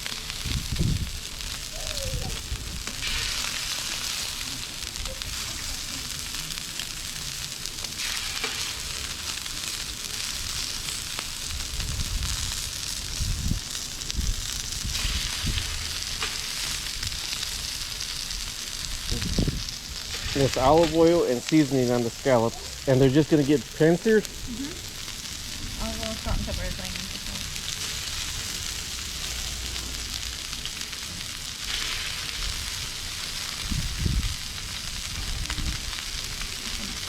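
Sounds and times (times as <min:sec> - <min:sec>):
low burner rumble: 0:00.0 - 0:37.0
scallops sizzling in oil: 0:00.0 - 0:37.0.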